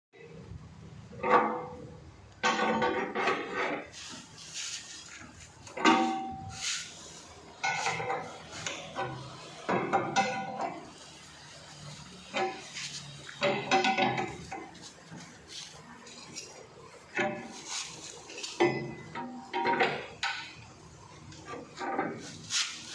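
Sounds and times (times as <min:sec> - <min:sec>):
metal tools clinking and scraping: 0:02.4 - 0:22.9.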